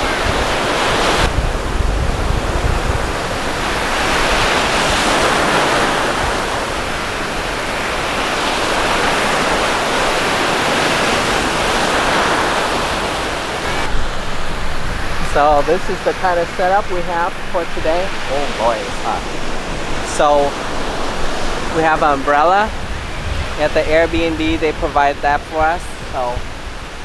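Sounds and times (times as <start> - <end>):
small waves breaking: 0.0 - 27.0
wind buffeting microphone: 0.0 - 27.0.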